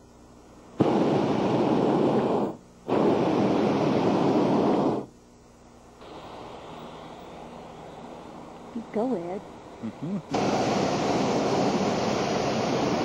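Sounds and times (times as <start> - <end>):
propane burner whoosh: 0.8 - 5.1, 6.0 - 13.0.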